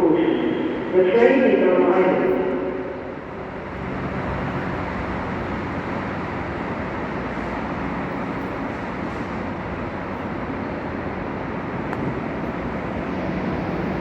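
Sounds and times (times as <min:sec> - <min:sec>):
train rolling noise: 0:00.0 - 0:14.0.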